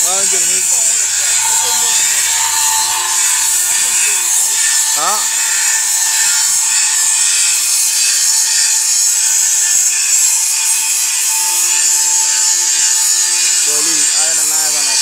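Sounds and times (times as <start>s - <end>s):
power tool grinding metal: 0.0s - 15.0s.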